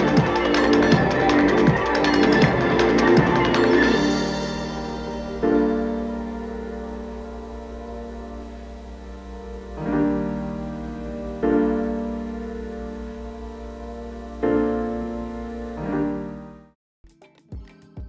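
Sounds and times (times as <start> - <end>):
slow keyboard chords: 0.0 - 16.8.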